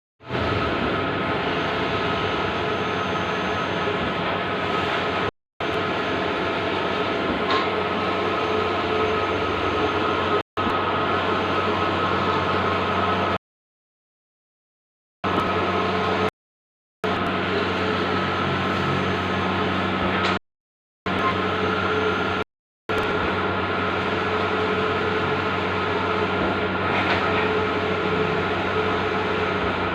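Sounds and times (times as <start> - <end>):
printing machine humming and whining: 0.2 - 13.4, 15.2 - 16.3, 17.0 - 20.4, 21.1 - 29.9.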